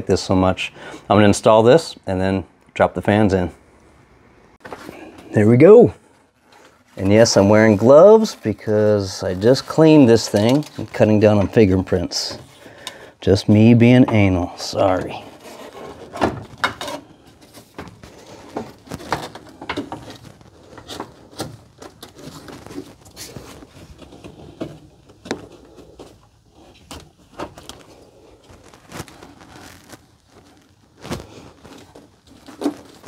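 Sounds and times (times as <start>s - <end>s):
rustling and scraping: 4.6s - 33.0s.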